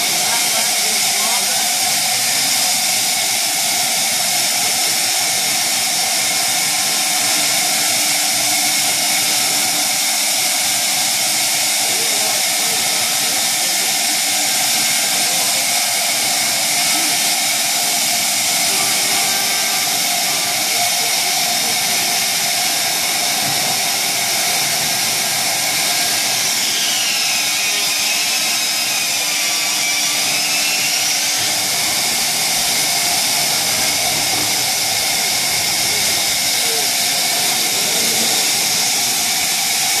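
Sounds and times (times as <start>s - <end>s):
cnc router rushing hiss: 0.0s - 40.0s.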